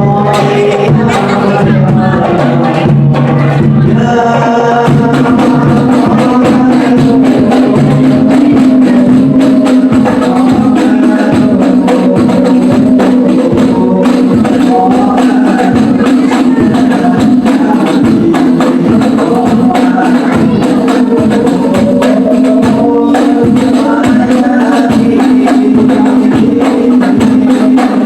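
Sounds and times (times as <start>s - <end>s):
person singing melody: 0.0s - 28.0s
frame drums and jingles: 4.9s - 28.0s.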